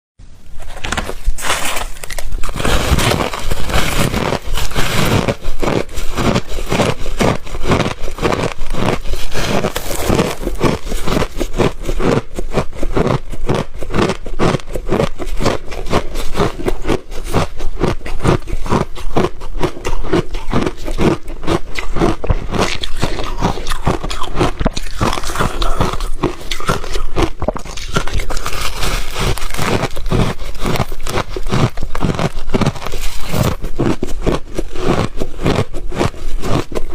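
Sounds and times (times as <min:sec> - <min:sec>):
ice crunching between teeth: 0:00.6 - 0:36.9.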